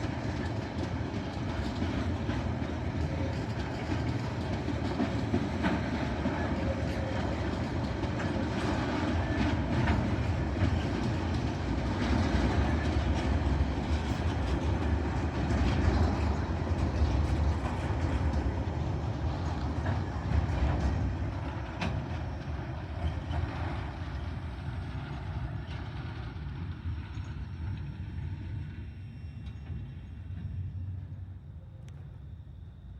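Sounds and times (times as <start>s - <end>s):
train wheels clicking on track: 0.0s - 32.2s
freight train rumbling past: 0.0s - 32.9s.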